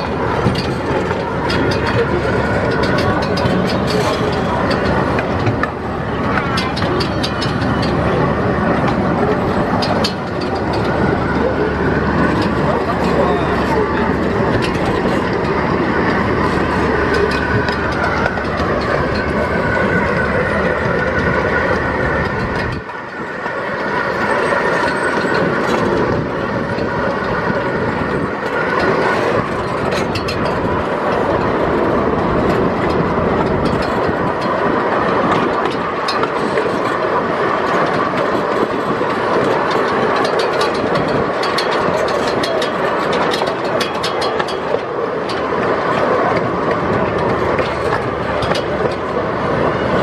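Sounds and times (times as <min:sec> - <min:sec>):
train car rumbling and rattling: 0:00.0 - 0:50.0
wheels clicking over rail joints: 0:00.0 - 0:50.0.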